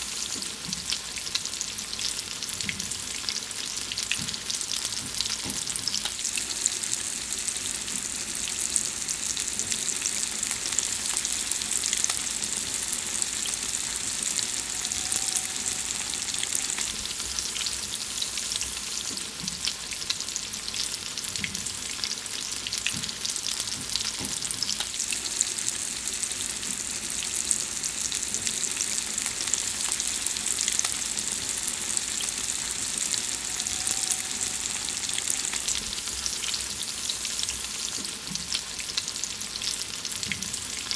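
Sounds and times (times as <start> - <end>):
food frying sizzle: 0.0 - 40.9.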